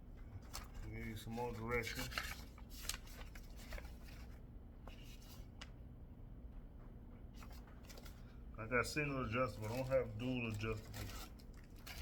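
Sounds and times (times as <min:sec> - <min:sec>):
low steady room hum: 0:00.0 - 0:12.0.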